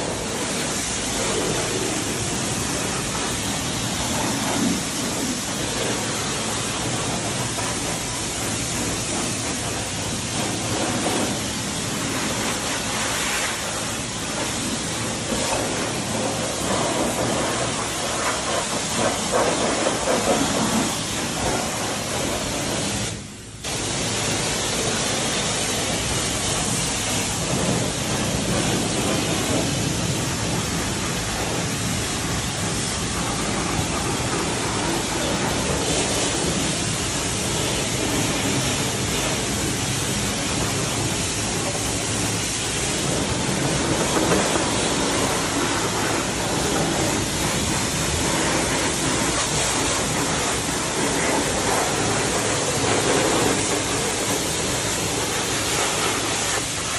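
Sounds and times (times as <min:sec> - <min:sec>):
water spray hissing: 0:00.0 - 0:56.9.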